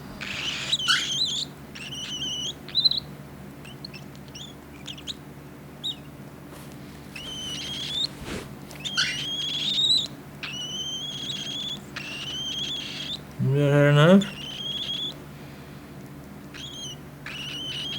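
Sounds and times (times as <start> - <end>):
bird chick begging calls: 0.0 - 5.2, 7.2 - 15.2, 16.5 - 17.9.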